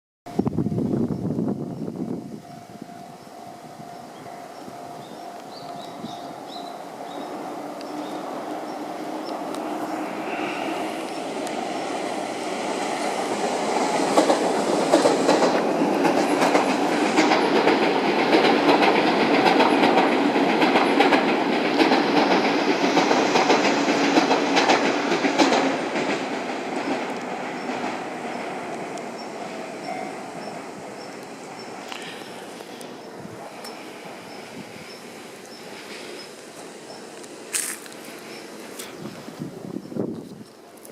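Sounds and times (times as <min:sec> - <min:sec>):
electric train passing: 0:00.3 - 0:40.9
wheels clacking over rail joints: 0:05.4 - 0:39.0.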